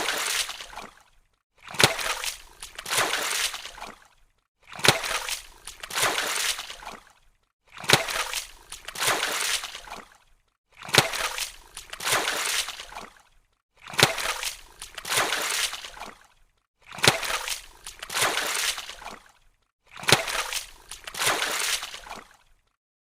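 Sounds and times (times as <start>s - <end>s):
water splashing and sloshing: 0.0s - 22.8s.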